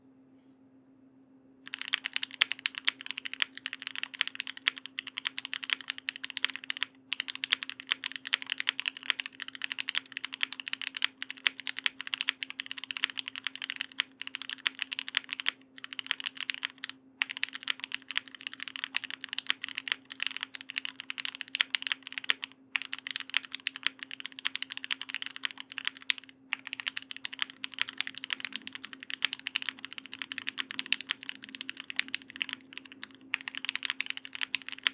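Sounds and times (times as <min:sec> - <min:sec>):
mechanical keyboard typing: 0:01.7 - 0:34.9.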